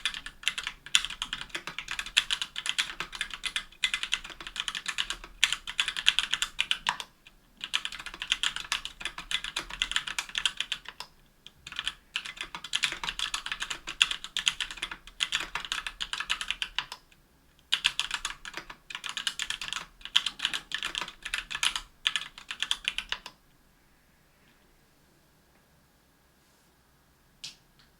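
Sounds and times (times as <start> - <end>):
fast typing on a keyboard: 0.0 - 17.0, 17.7 - 23.4.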